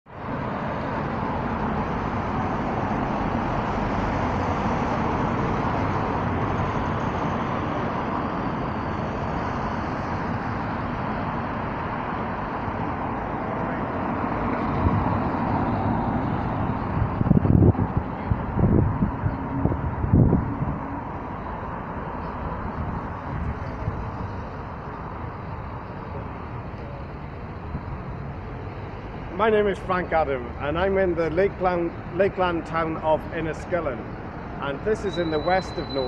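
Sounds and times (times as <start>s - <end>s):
road traffic rumble and tyre hiss: 0.1s - 36.0s.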